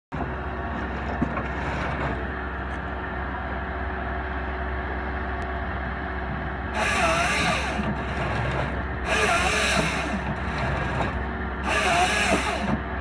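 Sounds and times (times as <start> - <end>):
diesel engine hum: 0.1 - 13.0
mechanical working noise: 0.1 - 13.0.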